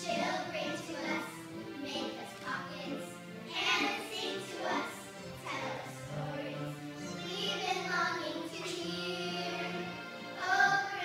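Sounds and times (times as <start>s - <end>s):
children singing: 0.0s - 11.0s
music: 0.0s - 11.0s.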